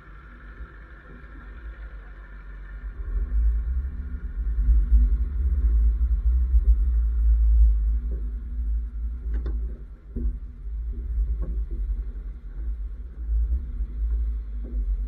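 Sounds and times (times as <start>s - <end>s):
car rumbling on dirt track: 0.0s - 15.0s.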